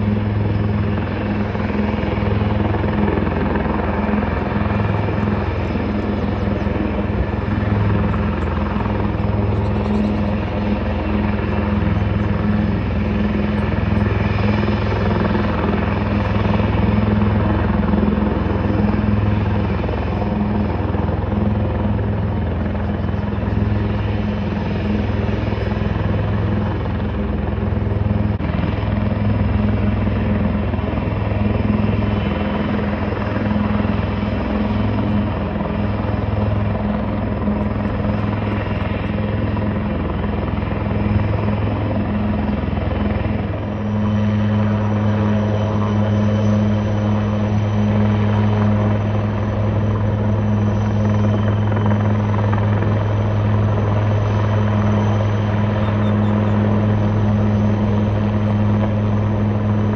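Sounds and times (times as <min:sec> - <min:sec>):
helicopter turbine and rotor drone: 0:00.0 - 0:59.9.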